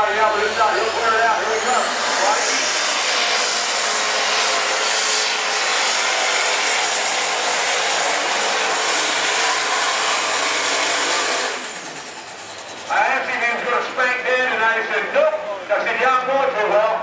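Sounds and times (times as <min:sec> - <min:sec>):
tractor engine at full throttle: 0:00.0 - 0:16.9.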